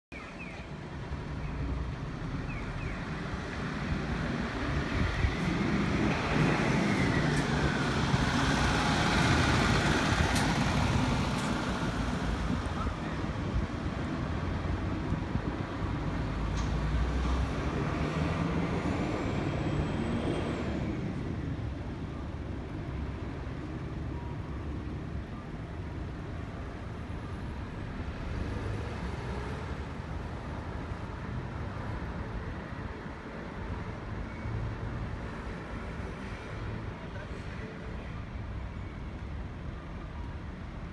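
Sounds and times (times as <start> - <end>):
road traffic: 0.1 - 40.9
diesel buses running: 0.2 - 40.9.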